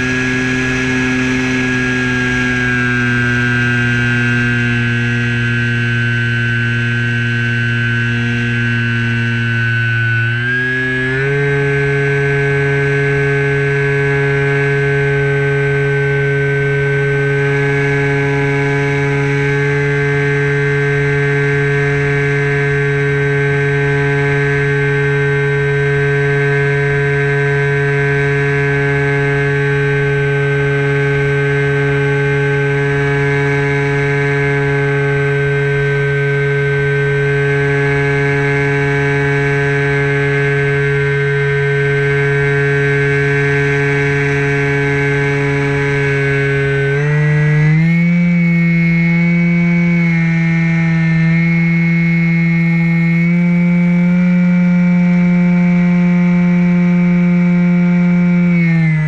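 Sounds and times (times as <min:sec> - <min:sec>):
model plane motor whine: 0:00.0 - 0:59.0.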